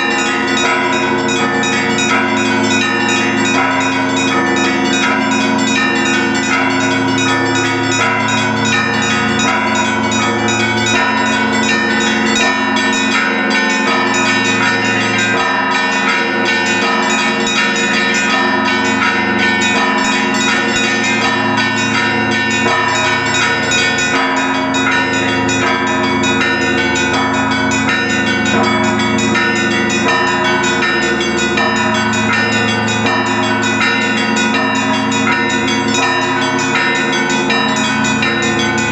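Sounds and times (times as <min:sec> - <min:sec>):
low church bells: 0:00.0 - 0:38.9
small bells striking rapidly: 0:00.0 - 0:38.9.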